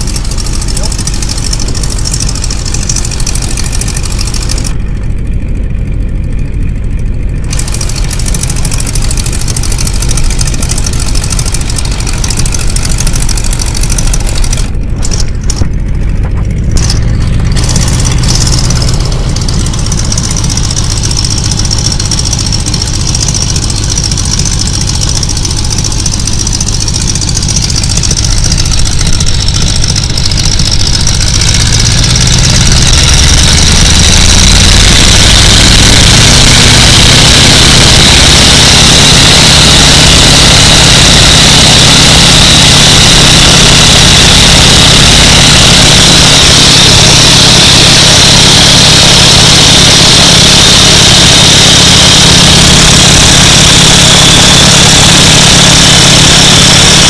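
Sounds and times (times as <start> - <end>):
biplane radial engine running: 0.0 - 57.0.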